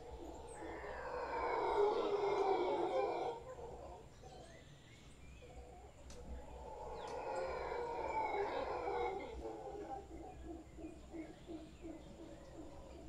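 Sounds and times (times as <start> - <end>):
howler monkeys howling: 0.0 - 4.6, 5.5 - 13.0.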